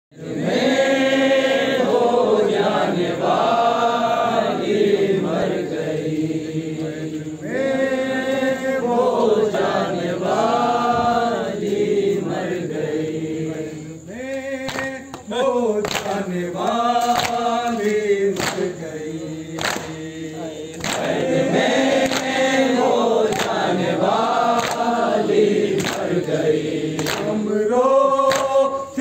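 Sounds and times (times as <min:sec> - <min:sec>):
group singing along: 0:00.1 - 0:29.0
men chanting a lament: 0:00.2 - 0:29.0.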